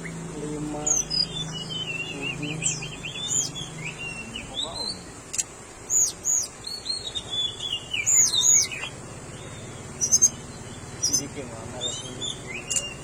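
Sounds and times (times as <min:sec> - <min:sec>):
bird singing whistled phrases: 0:00.8 - 0:05.1, 0:05.9 - 0:13.0.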